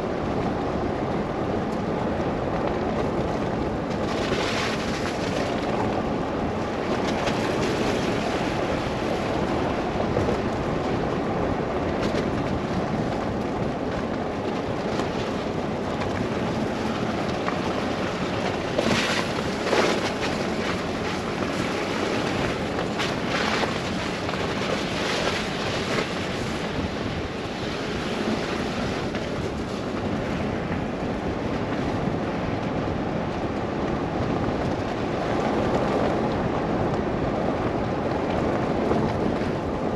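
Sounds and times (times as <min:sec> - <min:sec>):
car road noise: 0:00.0 - 0:39.9
rushing wind: 0:00.0 - 0:39.9.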